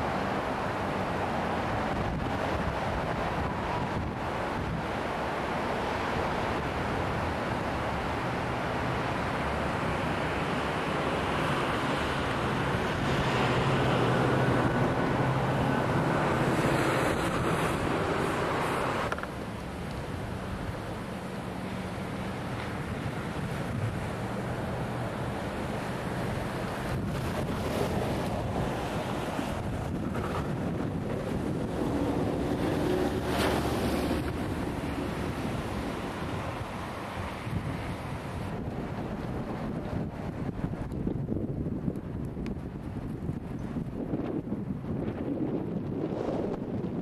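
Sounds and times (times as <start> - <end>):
strong wind on microphone: 0.0 - 19.2, 22.3 - 47.0
river rushing: 0.0 - 41.1.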